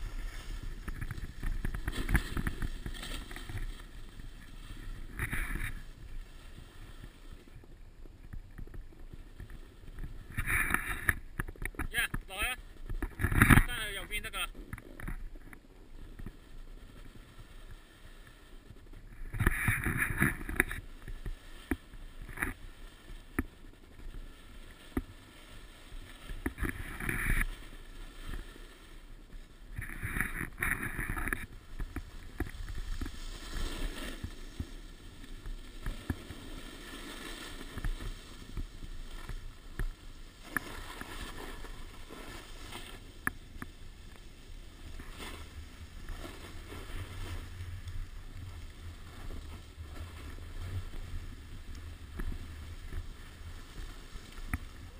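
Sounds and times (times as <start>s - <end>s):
ski edges scraping snow: 0.0s - 7.6s, 16.0s - 54.9s
skis rushing over snow: 0.0s - 15.0s, 15.6s - 54.9s.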